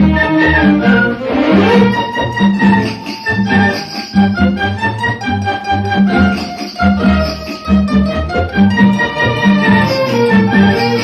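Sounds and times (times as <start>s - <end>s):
instrumental backing music: 0.0s - 11.0s.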